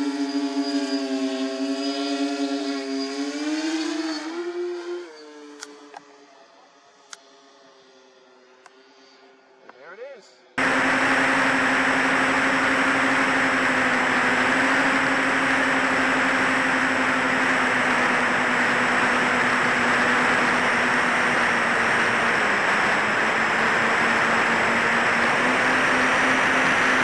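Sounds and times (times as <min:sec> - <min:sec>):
propeller hum: 0:00.0 - 0:09.1, 0:10.6 - 0:27.0.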